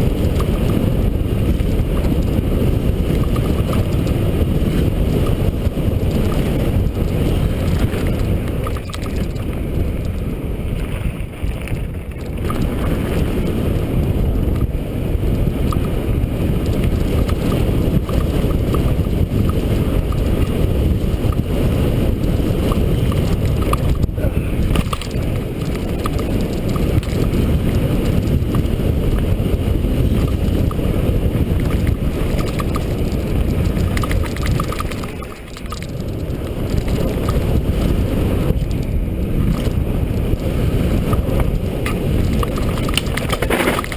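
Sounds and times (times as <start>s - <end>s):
tyres rumbling on dirt: 0.0s - 43.9s
wind on microphone: 0.0s - 43.9s.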